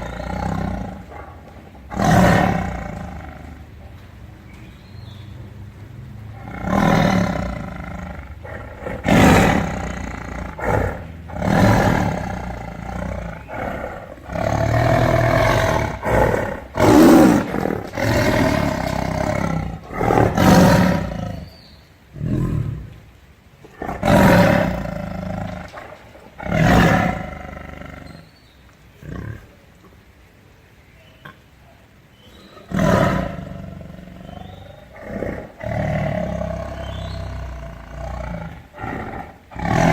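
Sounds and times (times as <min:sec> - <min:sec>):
tiger roaring: 0:00.0 - 0:04.0, 0:06.0 - 0:28.3, 0:32.5 - 0:39.9.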